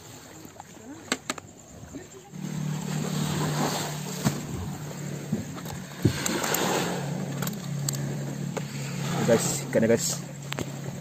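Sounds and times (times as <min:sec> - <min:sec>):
engine running steadily: 0:02.1 - 0:11.0.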